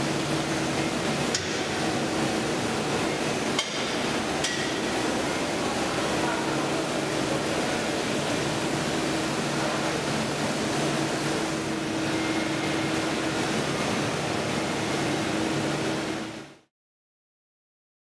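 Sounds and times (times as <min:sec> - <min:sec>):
factory machinery humming: 0:00.0 - 0:16.6.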